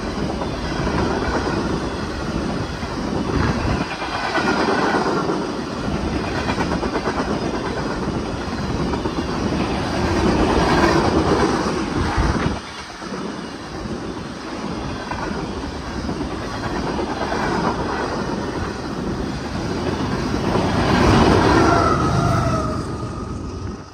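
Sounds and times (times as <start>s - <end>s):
diesel locomotive passing: 0.0s - 23.9s
train wheels clickety-clack: 0.0s - 23.9s.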